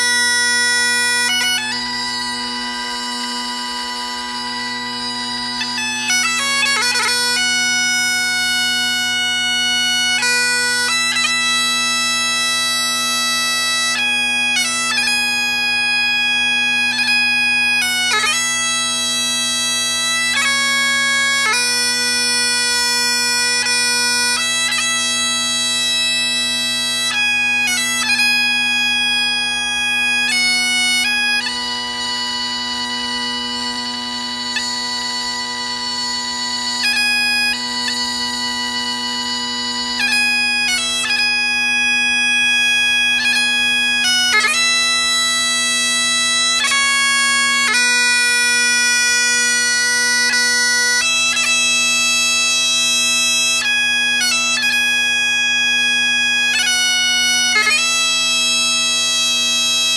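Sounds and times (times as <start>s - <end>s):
bagpipe chanter tune: 0.0s - 59.9s
bagpipe drones: 0.0s - 59.9s.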